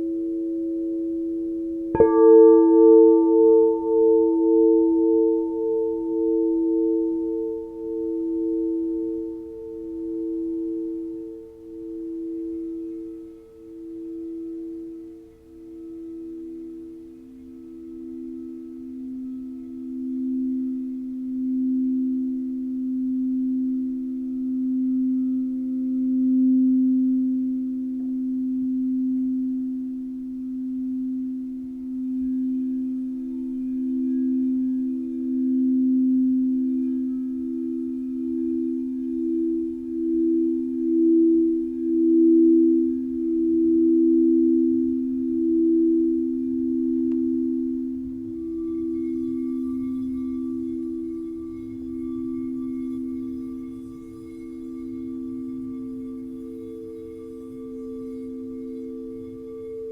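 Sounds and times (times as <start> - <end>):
singing bowls pulsing tones: 0.0 - 59.9.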